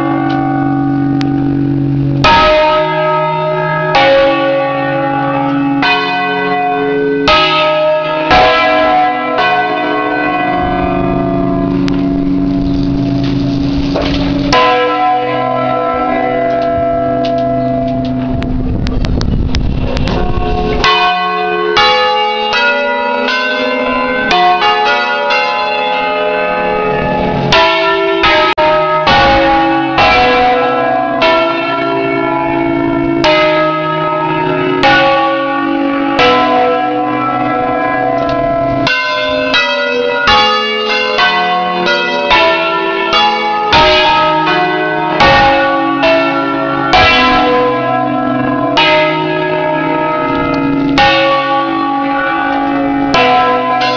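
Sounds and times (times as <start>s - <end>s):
church bells pealing: 0.0s - 53.9s.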